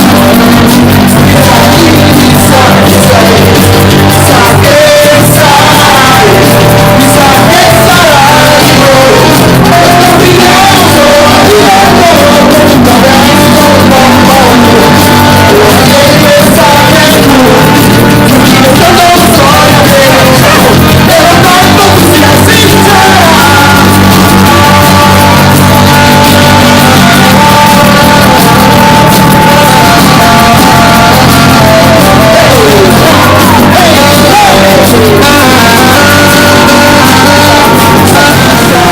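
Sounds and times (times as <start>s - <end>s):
live band with singer distorted: 0.0s - 38.9s.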